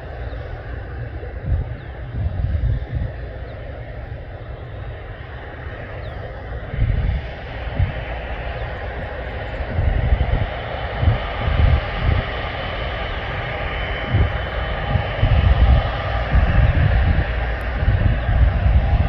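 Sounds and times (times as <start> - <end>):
jet engines running: 0.0 - 19.0
low rumbling gusts: 0.0 - 19.0.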